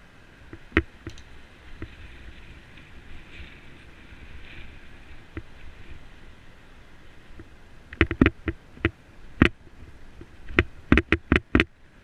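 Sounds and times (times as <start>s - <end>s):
wind and tyre rumble: 0.0s - 12.0s.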